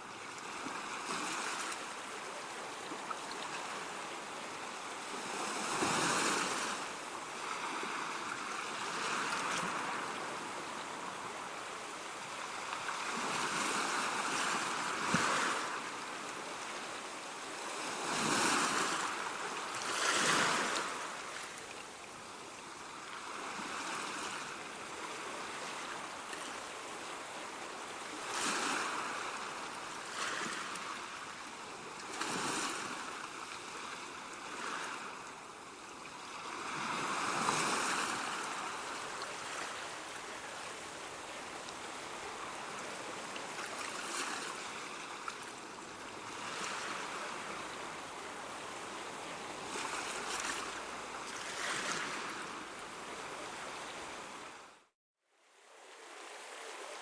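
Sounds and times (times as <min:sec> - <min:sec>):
ocean waves breaking: 0:00.2 - 0:11.6, 0:12.2 - 0:21.6, 0:23.2 - 0:31.4, 0:36.0 - 0:54.7.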